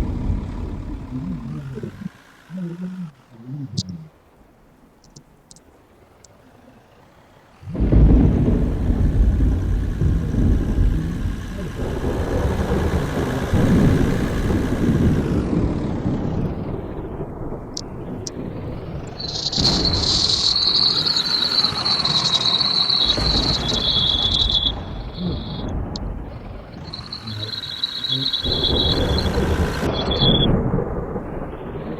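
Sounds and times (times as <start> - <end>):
loud low rumble: 0.0 - 3.1, 7.7 - 31.9
crickets chirring: 0.0 - 30.7.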